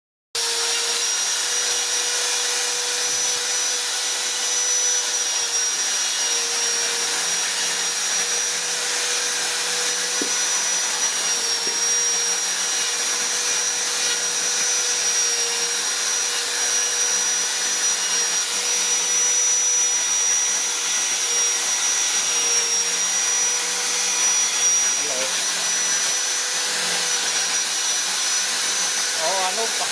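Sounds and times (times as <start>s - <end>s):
rotary grinder carving wood: 0.4s - 29.9s.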